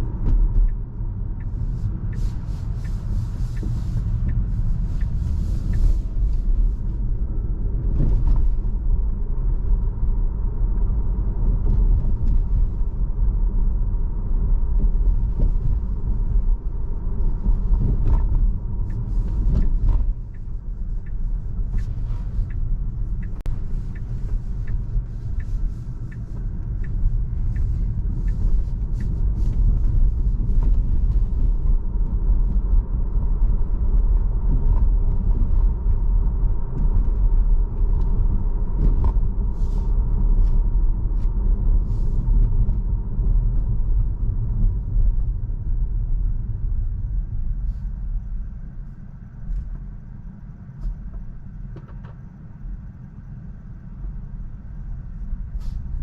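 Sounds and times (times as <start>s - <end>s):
light regular tick: 0.0s - 13.3s, 14.7s - 50.0s, 55.1s - 56.0s
road and tyre rumble: 0.0s - 56.0s.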